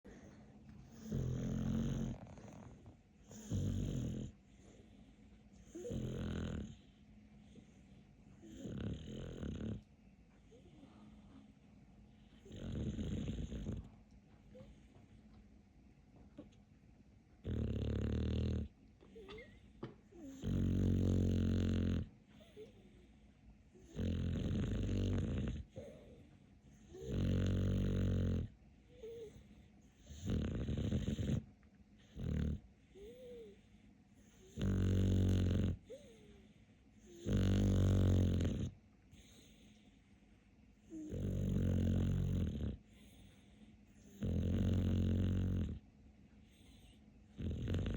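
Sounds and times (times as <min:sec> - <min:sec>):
dog snoring: 0:00.1 - 0:07.8, 0:08.4 - 0:11.5, 0:12.1 - 0:14.8, 0:17.4 - 0:23.0, 0:23.7 - 0:39.9, 0:40.8 - 0:47.9.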